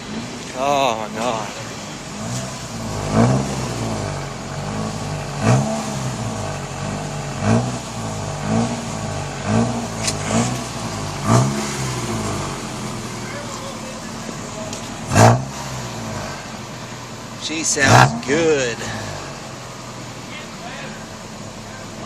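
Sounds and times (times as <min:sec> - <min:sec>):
car engine throttle blips: 0:00.0 - 0:22.0.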